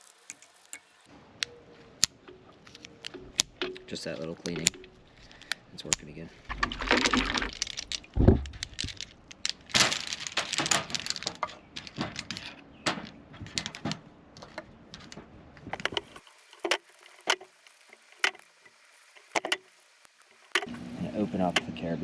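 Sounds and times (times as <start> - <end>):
carabiners clinking: 2.0 - 21.7.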